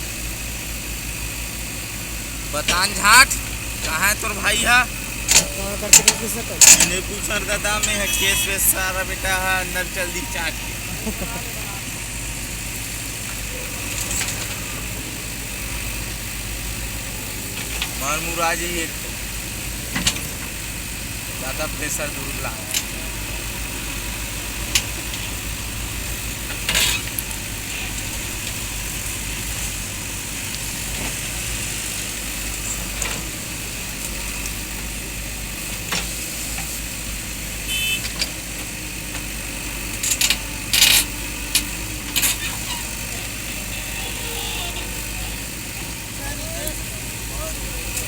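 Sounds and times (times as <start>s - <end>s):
constant hiss: 0.0s - 48.0s
diesel engine running: 0.0s - 48.0s.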